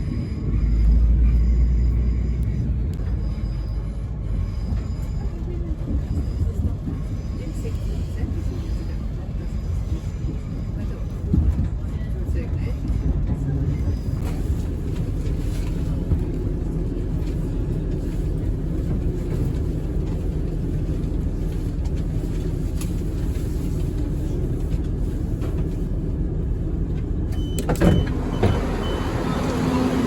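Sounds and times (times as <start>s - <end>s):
vehicle rumbling: 0.0s - 30.0s.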